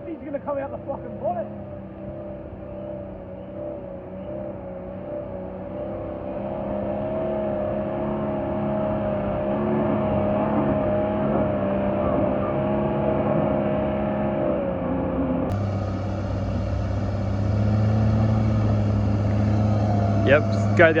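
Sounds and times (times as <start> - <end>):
engine revving hard: 0.7 - 14.8, 15.5 - 21.0.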